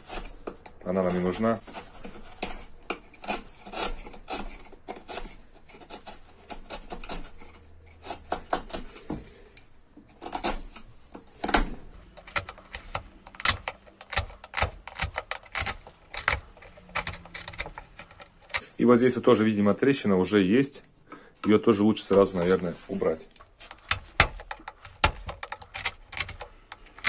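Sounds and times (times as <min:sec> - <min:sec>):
steel tools scraping particleboard: 0:00.0 - 0:19.8, 0:21.5 - 0:27.0.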